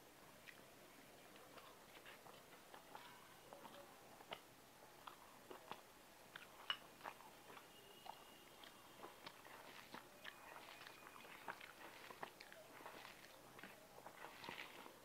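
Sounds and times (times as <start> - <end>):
close-up chewing: 0.0 - 15.0.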